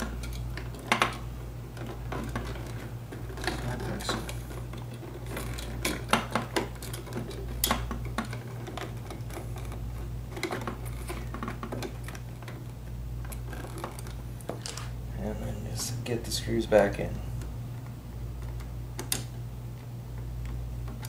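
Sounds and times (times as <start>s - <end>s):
steady low hum: 0.0s - 21.0s
wires clicking and scraping: 0.0s - 21.0s.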